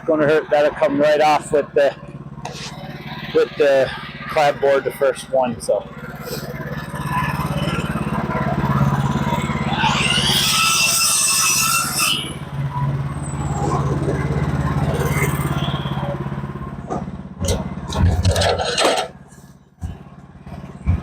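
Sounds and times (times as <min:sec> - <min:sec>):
rising and falling whine: 0:00.0 - 0:18.8
sawmill engine running: 0:00.0 - 0:21.0.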